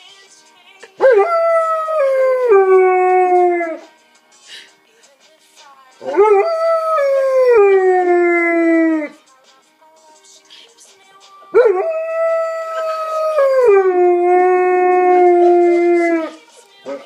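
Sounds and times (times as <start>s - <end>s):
song playing faintly: 0.0s - 17.0s.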